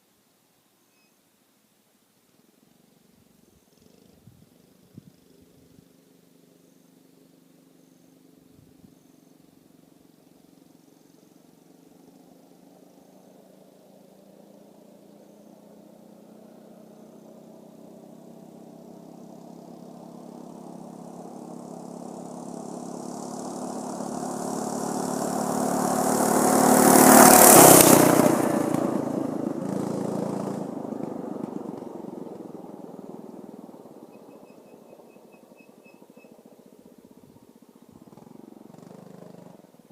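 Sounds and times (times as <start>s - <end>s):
mini bike engine passing by: 3.4s - 39.9s.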